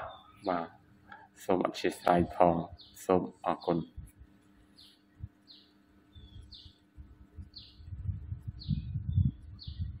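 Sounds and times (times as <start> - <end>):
bird chirping: 0.0 - 4.0, 4.7 - 10.0.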